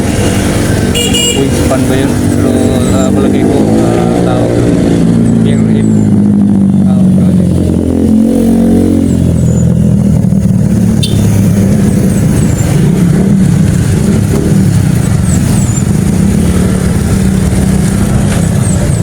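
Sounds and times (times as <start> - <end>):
large engine droning: 0.0 - 19.0.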